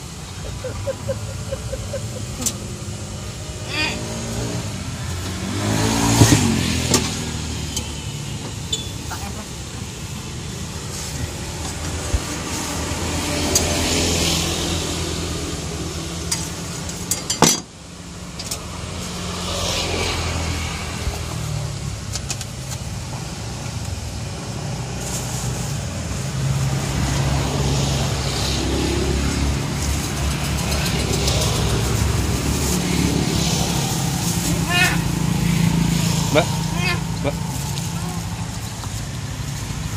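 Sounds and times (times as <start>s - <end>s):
vehicles passing: 0.0s - 39.9s.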